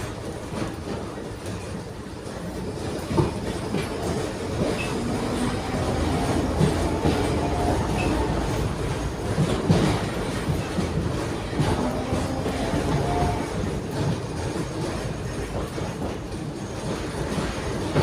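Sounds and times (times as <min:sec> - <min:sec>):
tram running gear rumble: 0:00.0 - 0:18.0
wheel clacks over rail joints: 0:00.0 - 0:18.0.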